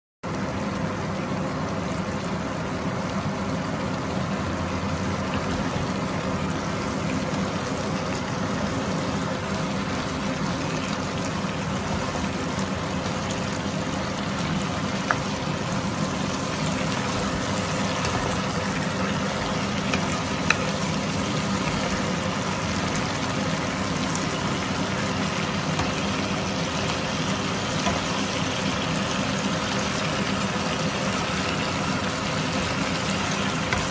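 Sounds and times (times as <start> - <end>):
food sizzling in a frying pan: 0.3 - 33.9.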